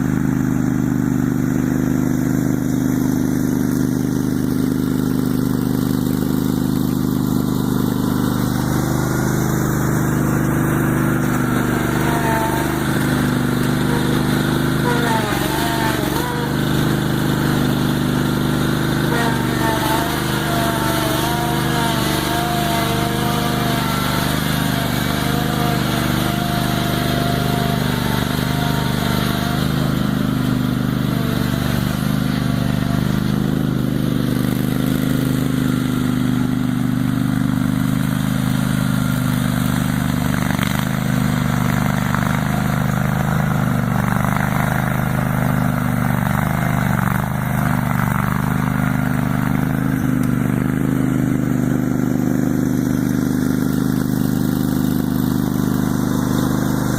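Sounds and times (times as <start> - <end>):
garden tractor engine running: 0.0 - 56.9.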